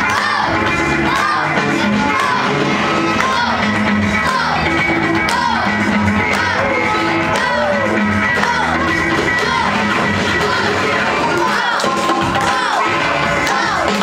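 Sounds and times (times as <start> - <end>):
loud music with vocals: 0.0 - 14.0.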